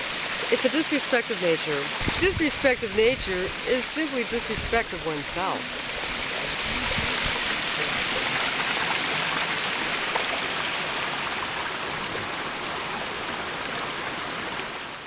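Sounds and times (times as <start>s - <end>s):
stream rushing over stones: 0.0s - 15.0s.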